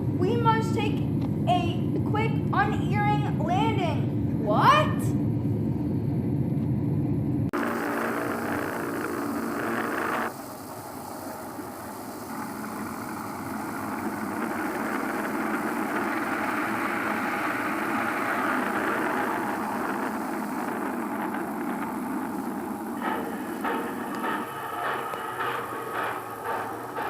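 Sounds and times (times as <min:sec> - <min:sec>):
vehicle engine rumbling: 0:05.1 - 0:27.0.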